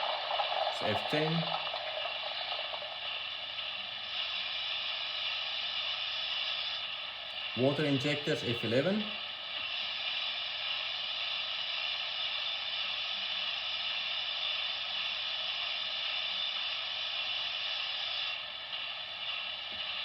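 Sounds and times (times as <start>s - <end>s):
steady steam hiss: 0.0s - 20.0s.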